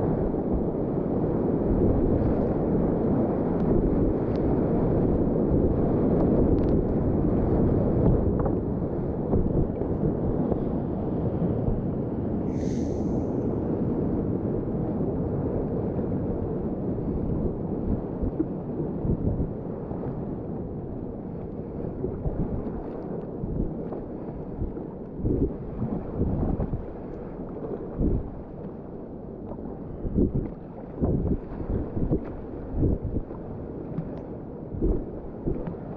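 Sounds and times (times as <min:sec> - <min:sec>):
wind buffeting microphone: 0:00.0 - 0:28.6, 0:29.3 - 0:35.9.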